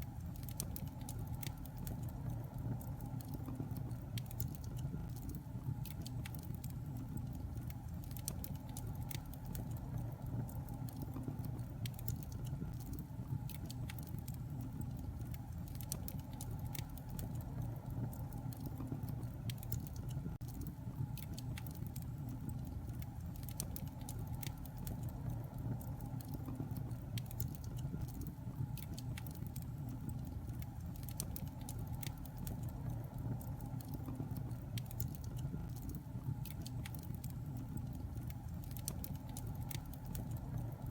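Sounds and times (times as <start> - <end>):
fire crackling and popping: 0.0 - 40.9
wood fire burning: 0.0 - 40.9.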